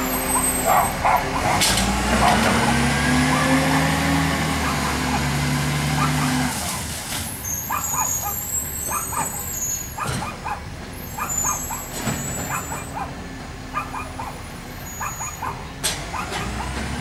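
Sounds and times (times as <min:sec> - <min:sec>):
garbage truck diesel engine running: 0:00.0 - 0:17.0.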